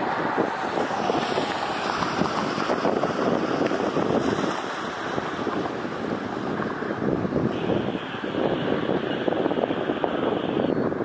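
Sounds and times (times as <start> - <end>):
jet engines rushing: 0.0 - 11.0
wind buffeting microphone: 0.0 - 11.0.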